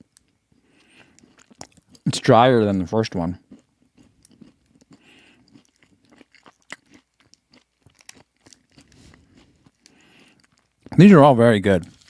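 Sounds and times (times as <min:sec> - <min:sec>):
person chewing crunchy food: 0:00.0 - 0:11.1.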